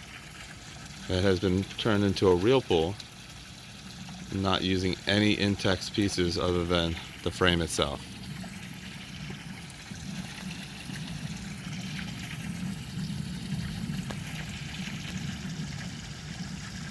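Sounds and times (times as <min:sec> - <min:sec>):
waterfall spilling into pool: 0:00.0 - 0:16.9.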